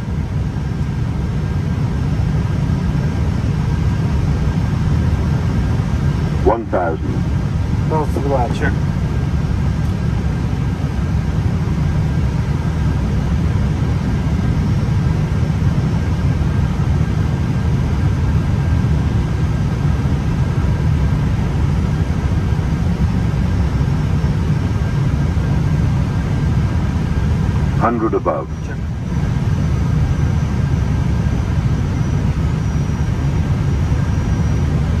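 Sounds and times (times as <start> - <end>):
airflow and engine rumble: 0.0 - 35.0
faint steady whine: 0.0 - 35.0.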